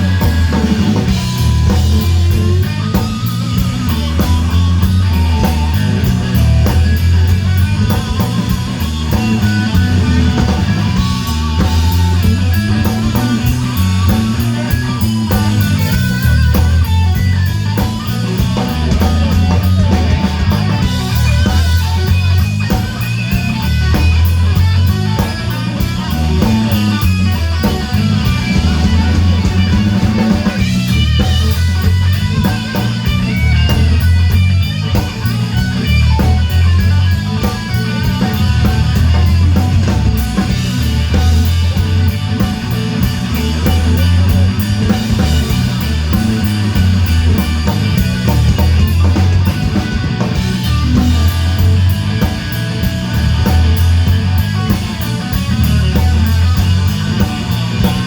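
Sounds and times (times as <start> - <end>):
electric blues band: 0.0 - 58.0
lead electric guitar: 0.0 - 58.0.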